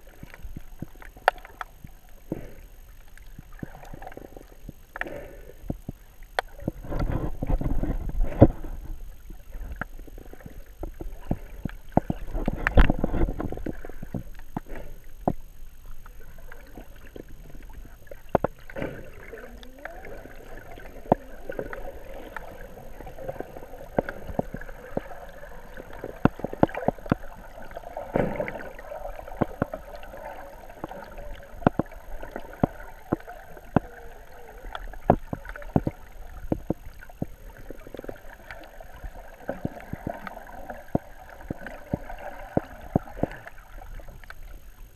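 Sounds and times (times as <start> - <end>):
low underwater rumbles: 0.0 - 44.9
water rushing underwater: 0.0 - 44.9.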